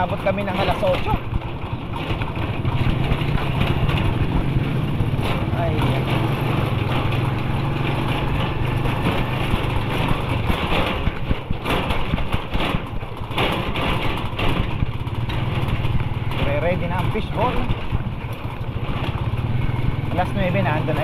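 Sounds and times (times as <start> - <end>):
rushing road noise: 0.0 - 21.0
vehicle engine hum: 0.0 - 21.0.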